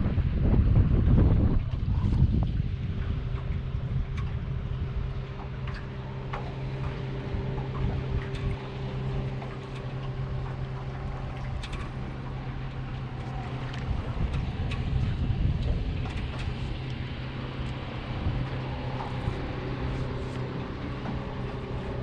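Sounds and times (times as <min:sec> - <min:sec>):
boat motor hum: 0:00.0 - 0:22.0
wind buffeting microphone: 0:00.0 - 0:22.0.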